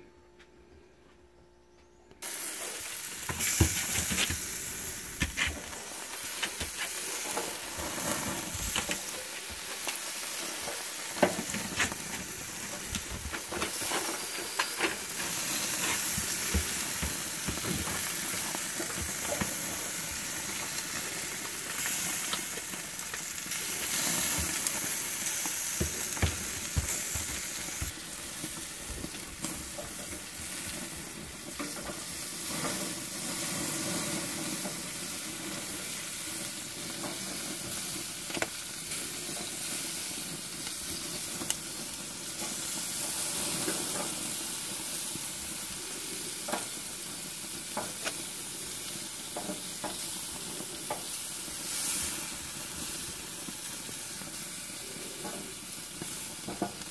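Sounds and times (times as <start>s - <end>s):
sausages sizzling on a grill: 2.2s - 56.9s.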